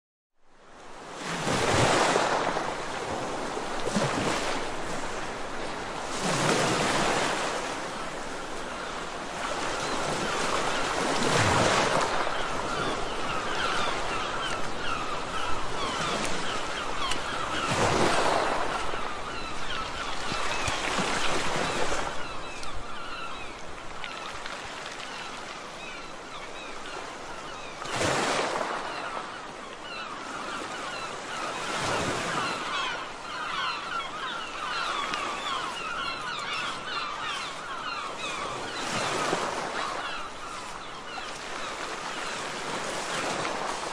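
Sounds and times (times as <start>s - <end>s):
waves washing onto beach: 0.6s - 43.9s
birds chirping: 7.9s - 43.8s.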